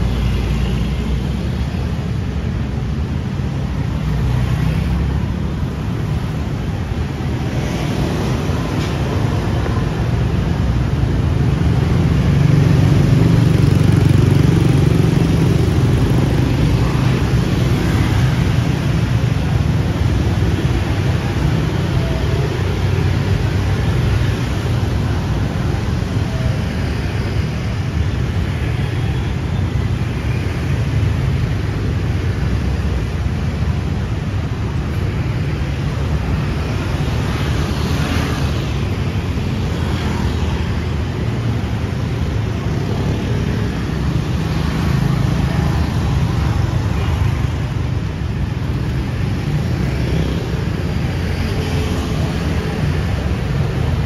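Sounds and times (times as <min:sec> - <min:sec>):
busy street traffic rumble: 0:00.0 - 0:54.0.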